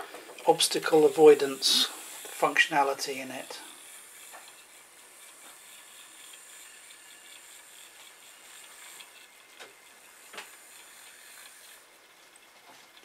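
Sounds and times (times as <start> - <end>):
gear motors whirring: 0.0 - 13.0.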